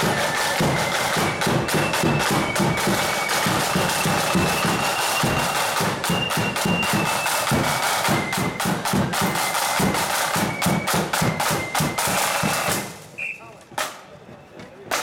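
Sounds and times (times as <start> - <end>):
flutes playing high notes: 0.0 - 13.6
side drums rattling: 0.0 - 14.1.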